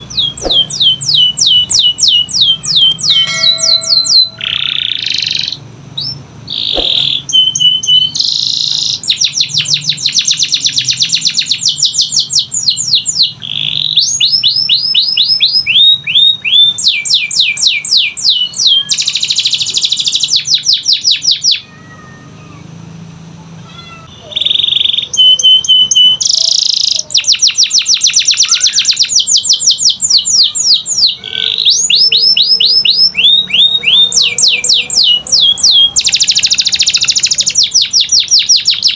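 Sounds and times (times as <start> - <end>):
canary singing: 0.0 - 22.8, 23.7 - 38.9.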